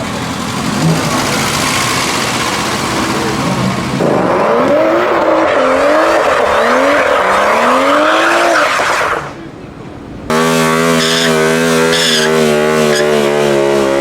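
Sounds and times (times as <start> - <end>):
tyres squealing: 0.0 - 13.3
engine and tyre noise: 0.0 - 14.0.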